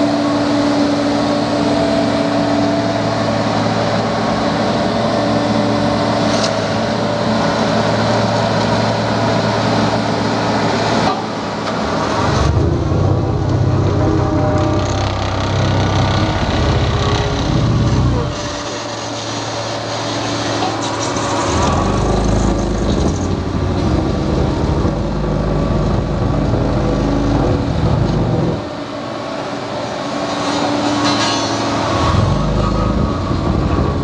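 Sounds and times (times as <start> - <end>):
road roller diesel engine rumbling: 0.0 - 34.0.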